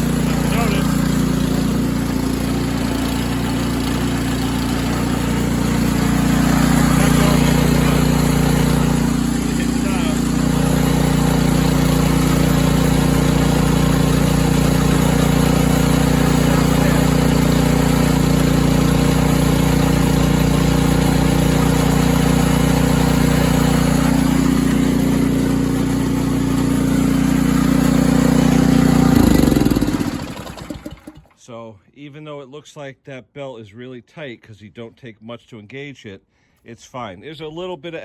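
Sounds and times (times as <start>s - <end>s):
snowblower engine running: 0.0s - 31.4s.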